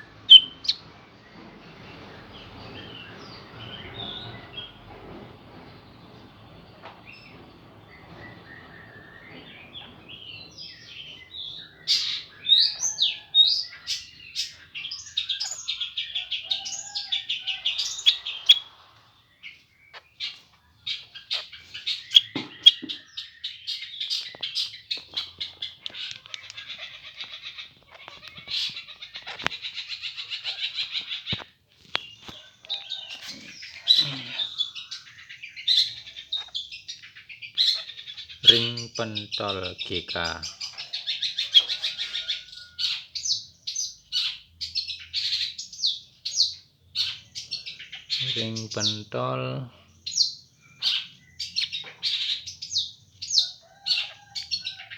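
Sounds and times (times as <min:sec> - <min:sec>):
bird chirping and rattling: 0:00.0 - 0:49.1, 0:50.0 - 0:54.9.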